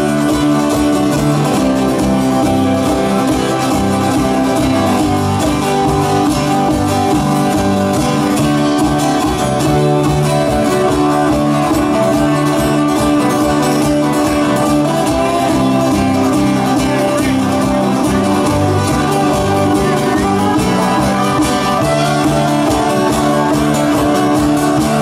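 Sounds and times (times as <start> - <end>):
bass and drums: 0.0 - 25.0
electric and acoustic guitars strummed: 0.0 - 25.0.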